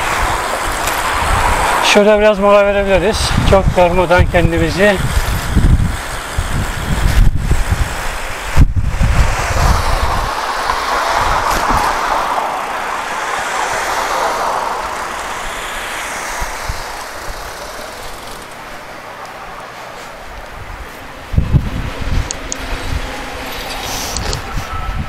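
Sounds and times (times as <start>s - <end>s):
wind buffeting microphone: 0.0s - 19.2s, 20.0s - 25.0s
passing cars: 0.0s - 25.0s
tyres rushing on road: 0.0s - 25.0s.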